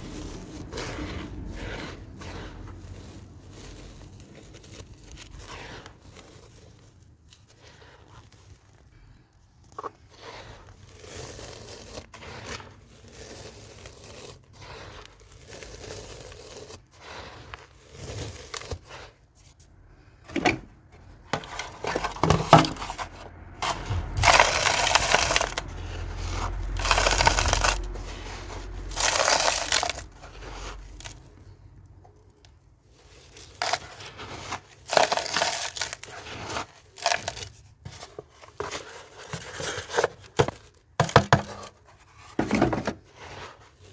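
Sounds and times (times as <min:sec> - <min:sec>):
cement chunks crunching: 0:00.0 - 0:43.9.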